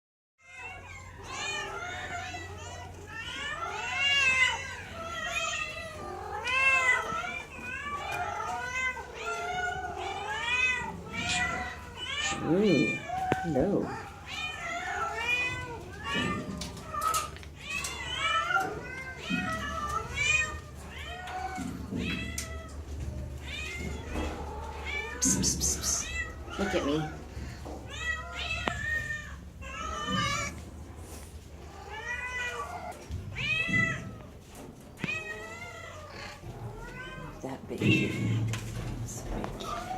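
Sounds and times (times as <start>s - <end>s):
cats meowing: 0.4s - 39.9s.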